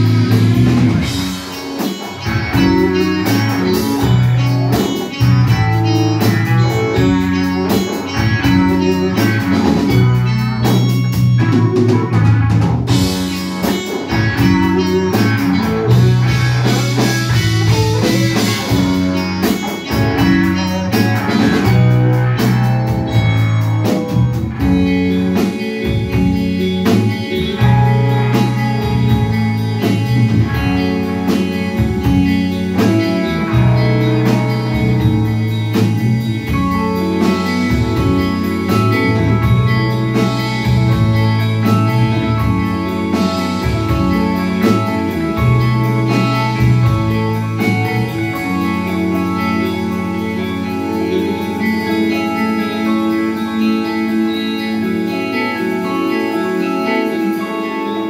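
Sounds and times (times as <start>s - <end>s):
drum kit hits: 0.0s - 50.3s
bass guitar notes: 0.0s - 58.0s
electric guitars: 0.0s - 58.0s.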